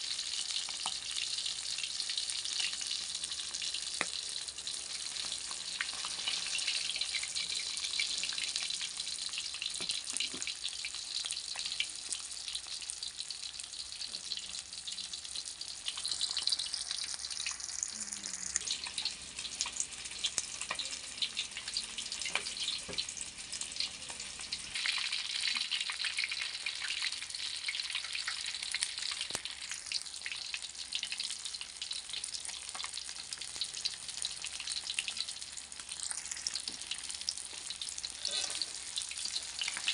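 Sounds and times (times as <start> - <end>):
fish deep-frying in oil: 0.0 - 39.9.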